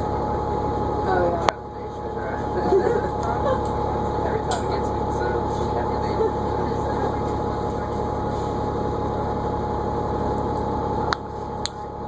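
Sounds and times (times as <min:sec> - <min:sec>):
bus engine with high whine: 0:00.0 - 0:12.0.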